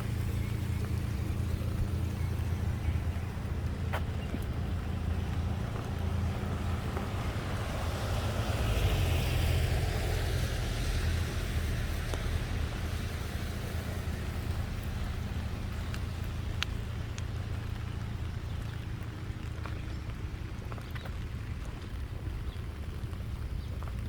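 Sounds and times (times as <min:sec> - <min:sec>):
vehicle passing by: 0:00.0 - 0:23.1
steady low rumble: 0:00.0 - 0:24.0.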